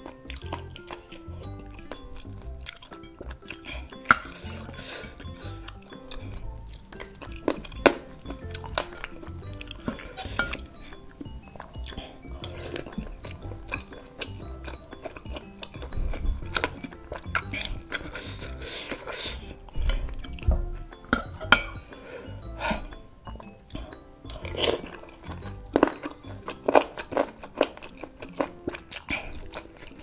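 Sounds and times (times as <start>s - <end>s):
cutlery clinking on ceramic bowl: 0.0s - 22.1s, 23.3s - 30.0s
close-up chewing: 0.0s - 30.0s
soft background music: 0.0s - 30.0s.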